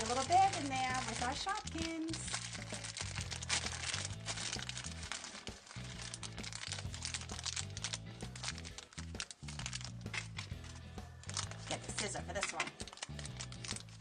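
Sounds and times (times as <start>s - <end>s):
background music with bass line: 0.0s - 14.0s
plastic packaging crinkling: 0.0s - 14.0s.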